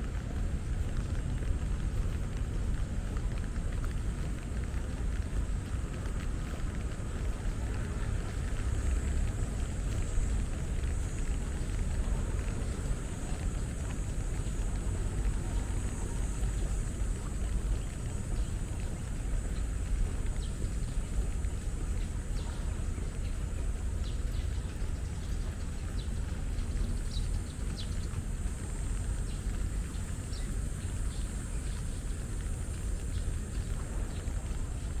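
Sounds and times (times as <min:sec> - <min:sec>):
distant traffic rumble: 0:00.0 - 0:35.0.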